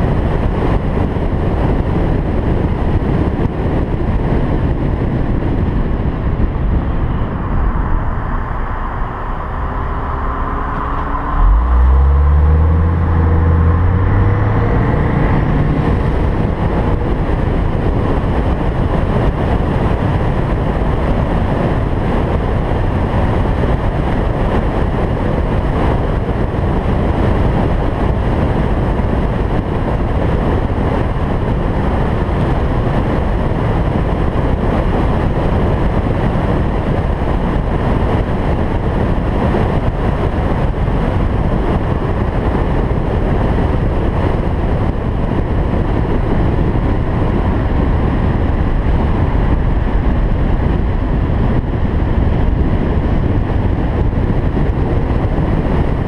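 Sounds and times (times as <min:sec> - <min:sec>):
car road noise: 0:00.0 - 0:56.0
wind buffeting microphone: 0:00.0 - 0:56.0
wind rushing: 0:00.0 - 0:56.0.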